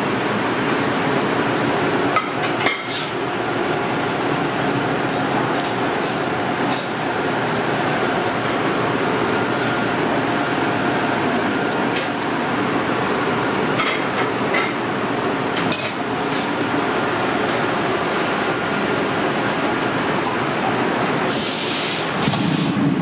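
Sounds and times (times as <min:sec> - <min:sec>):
commercial kitchen background noise: 0:00.0 - 0:23.0.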